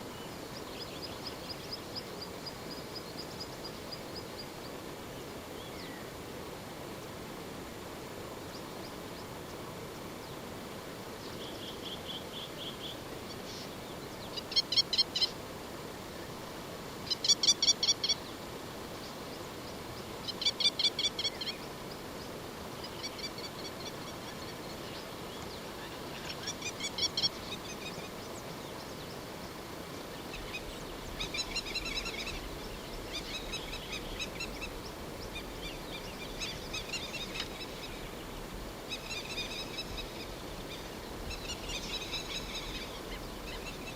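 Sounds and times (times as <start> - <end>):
faint background hiss: 0.0 - 43.9.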